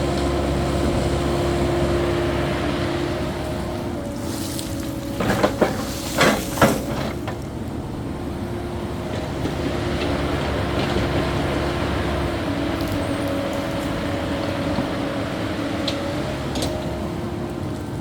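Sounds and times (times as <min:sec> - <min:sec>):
excavator running: 0:00.0 - 0:18.0.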